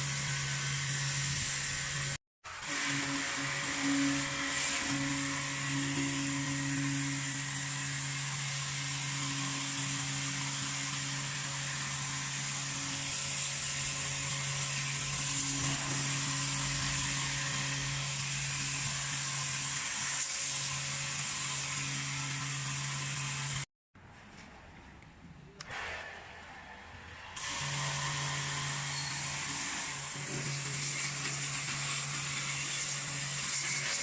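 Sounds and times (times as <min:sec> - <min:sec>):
pressure washer motor hum: 0:00.0 - 0:23.6, 0:27.4 - 0:34.0.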